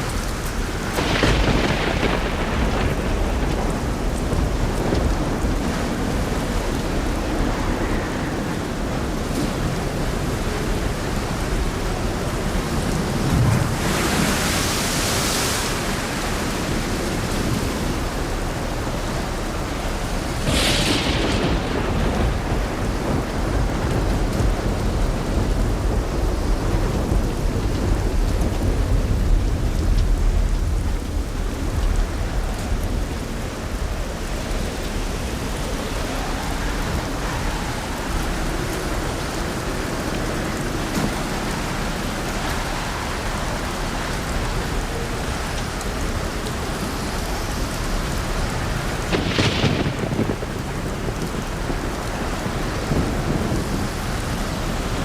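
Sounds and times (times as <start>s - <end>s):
sharp thunder burst: 0.0s - 15.0s, 19.6s - 55.0s
heavy rain falling: 0.0s - 55.0s
low rolling thunder rumble: 0.0s - 55.0s.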